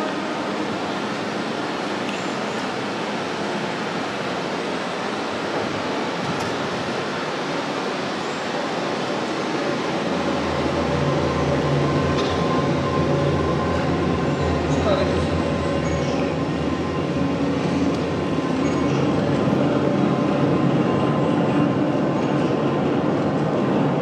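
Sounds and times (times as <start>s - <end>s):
rail vehicle hum: 0.0s - 24.0s.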